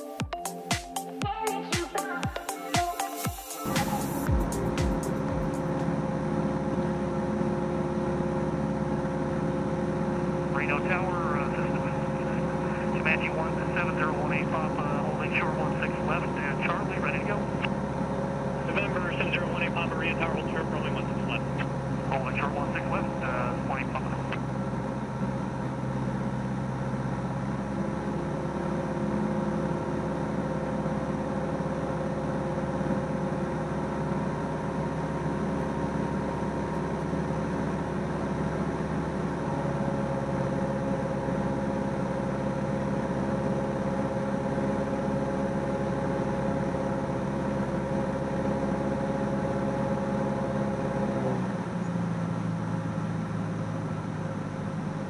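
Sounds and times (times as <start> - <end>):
propeller aircraft engine droning: 0.0 - 55.0.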